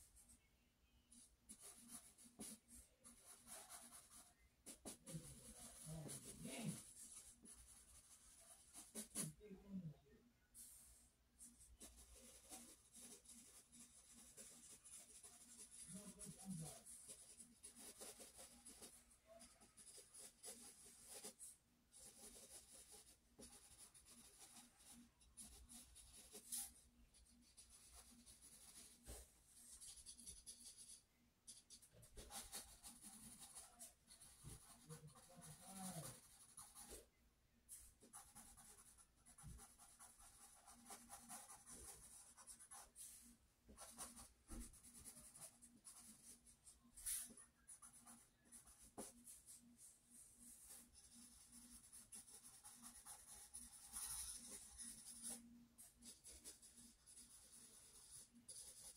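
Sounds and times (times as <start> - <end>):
pencil scratching on paper: 1.1 - 9.6, 10.6 - 37.1, 37.7 - 58.9.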